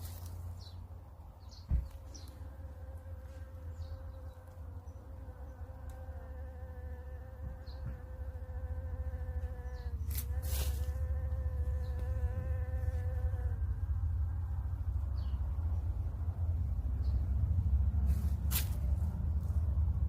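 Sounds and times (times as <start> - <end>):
continuous low rumble: 0.0 - 20.0.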